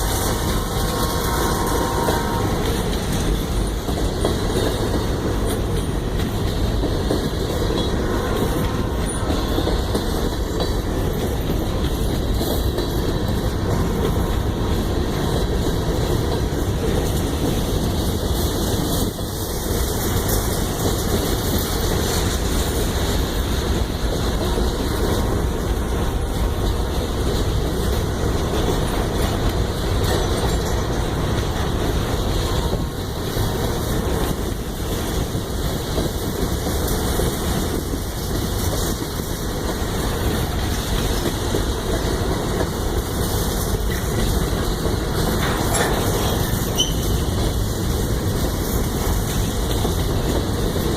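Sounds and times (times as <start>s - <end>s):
train cars rolling by: 0.0s - 50.9s.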